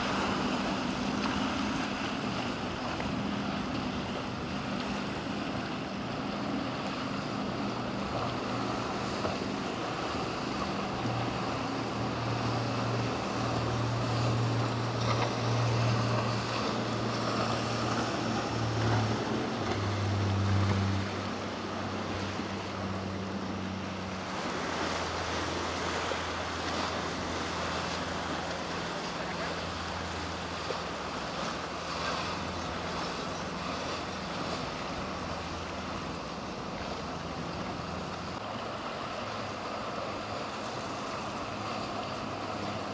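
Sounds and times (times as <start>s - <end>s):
motorboat engines humming: 0.0s - 42.9s
waves: 0.0s - 42.9s.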